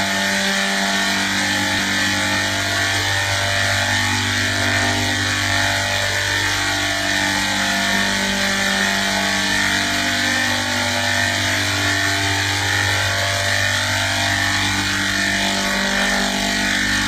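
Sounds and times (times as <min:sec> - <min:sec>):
machine drone with hiss: 0:00.0 - 0:17.0.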